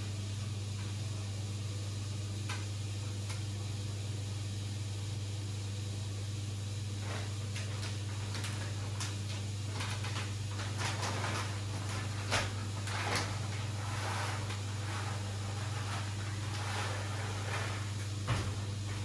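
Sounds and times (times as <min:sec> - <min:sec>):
aquarium equipment humming: 0:00.0 - 0:19.0.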